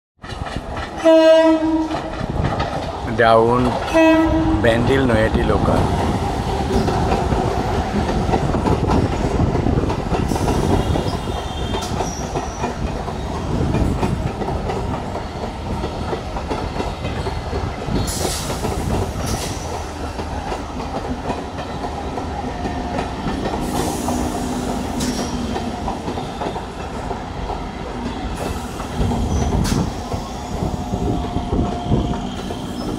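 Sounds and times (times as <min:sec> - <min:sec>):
train wheels clattering over rails: 0:00.2 - 0:04.6, 0:05.5 - 0:32.9.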